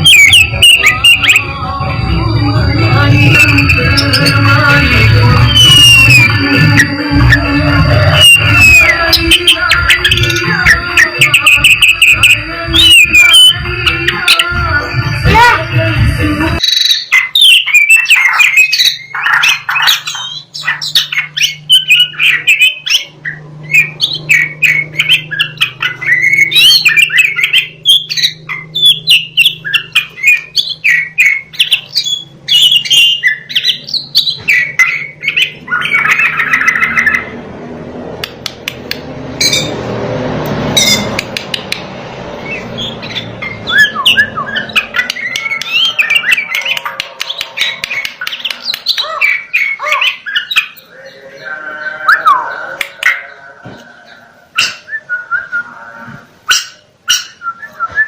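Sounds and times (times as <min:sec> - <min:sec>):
magpie-robin singing: 0:00.0 - 0:01.8, 0:02.4 - 0:15.5, 0:16.6 - 0:37.4, 0:39.4 - 0:39.8, 0:40.8 - 0:41.7, 0:42.4 - 0:55.6, 0:56.4 - 0:58.0.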